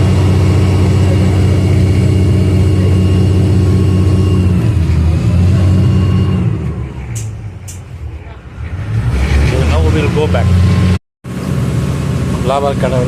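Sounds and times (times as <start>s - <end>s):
boat diesel engine throbbing: 0.0s - 13.0s.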